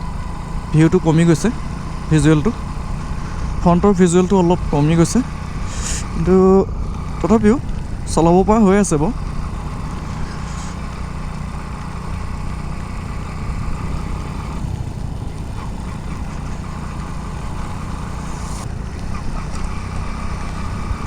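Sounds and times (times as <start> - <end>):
motorcycle engine rumble: 0.0 - 21.0.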